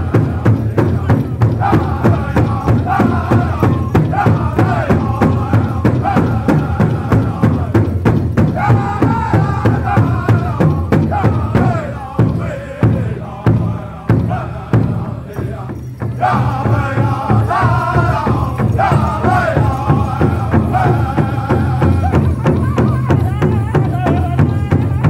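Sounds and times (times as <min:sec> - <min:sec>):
big drum beating: 0:00.0 - 0:25.0
group singing in chorus: 0:00.0 - 0:25.0.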